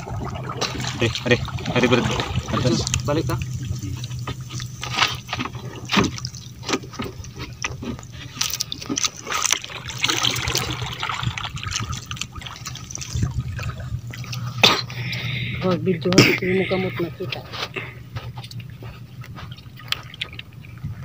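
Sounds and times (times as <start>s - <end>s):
steady low hum: 0.0s - 21.0s
water splashing and trickling: 0.0s - 21.0s.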